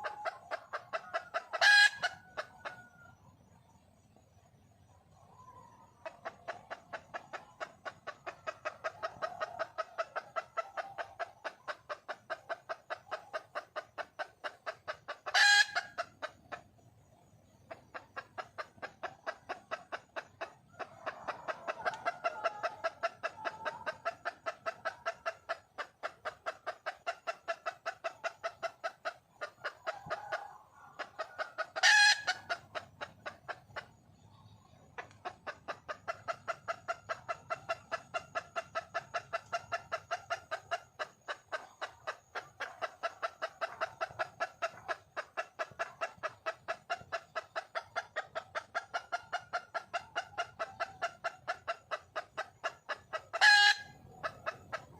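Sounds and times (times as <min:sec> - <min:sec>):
hen clucking: 0:00.0 - 0:54.9.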